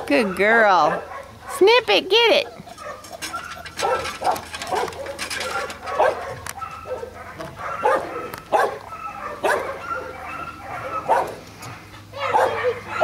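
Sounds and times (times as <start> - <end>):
puppies yipping and barking: 0.0 - 13.0.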